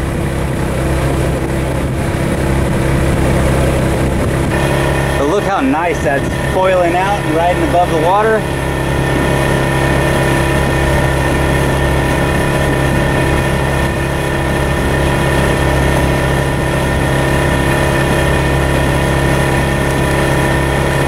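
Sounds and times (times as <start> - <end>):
outboard motor droning: 0.0 - 21.0
water rushing: 0.0 - 21.0.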